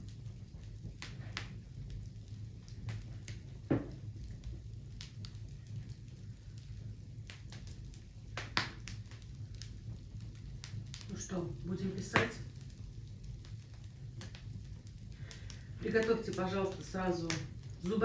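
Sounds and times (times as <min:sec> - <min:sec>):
bonfire crackling: 0:00.0 - 0:18.0
steady low rumble: 0:00.0 - 0:18.0
sharp pops and snaps: 0:00.6 - 0:06.0, 0:07.2 - 0:11.2, 0:12.0 - 0:16.4, 0:17.2 - 0:17.9.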